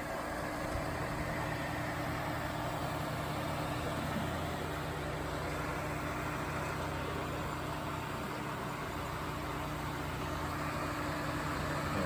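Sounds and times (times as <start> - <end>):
compressor hum: 0.0 - 12.0
fan motors rushing air: 0.0 - 12.0.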